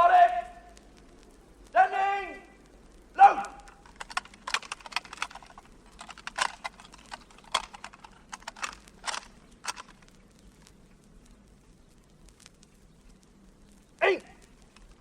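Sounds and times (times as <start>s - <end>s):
faint background hiss: 0.0s - 15.0s
sharp cracks and snaps: 0.0s - 15.0s.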